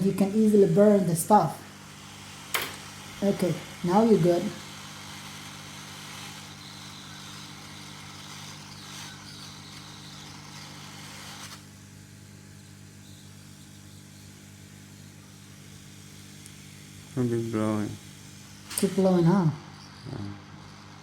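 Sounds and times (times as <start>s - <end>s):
hot-air blower hissing: 0.0s - 21.0s
low electrical hum: 0.0s - 21.0s.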